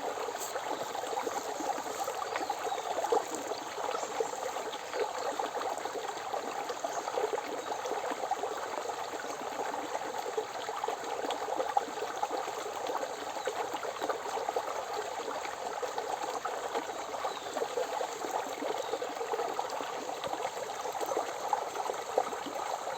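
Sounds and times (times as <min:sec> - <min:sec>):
stream babbling over rocks: 0:00.0 - 0:22.9.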